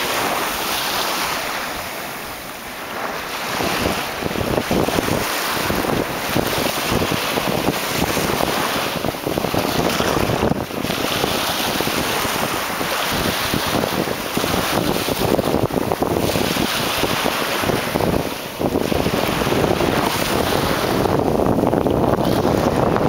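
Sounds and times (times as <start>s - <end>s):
small waves washing onto beach: 0.0s - 23.0s
wind buffeting the microphone: 0.0s - 23.0s.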